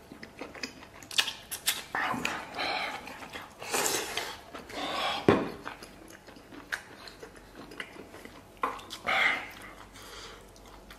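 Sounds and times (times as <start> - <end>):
chewing crunchy tripe: 0.0 - 10.9.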